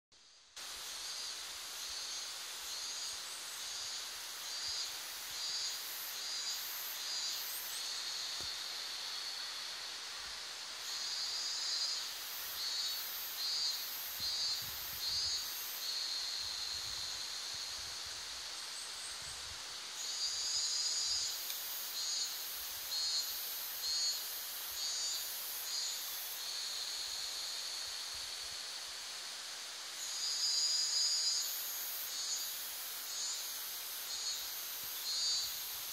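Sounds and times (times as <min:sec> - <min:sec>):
cicadas singing: 0:00.6 - 0:35.9.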